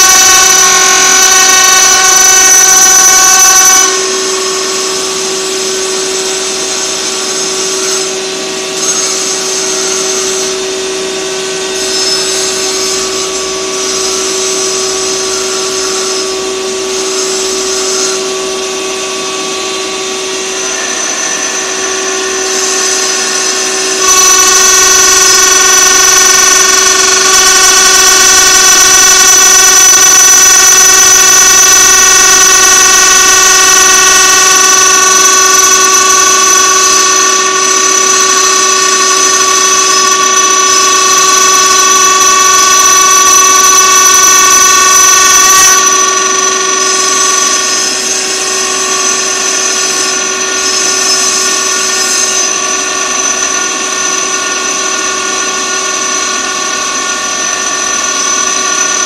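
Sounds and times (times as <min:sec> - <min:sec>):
cutter grinding stone: 0:00.0 - 0:59.0
router spindle whine: 0:00.0 - 0:59.0.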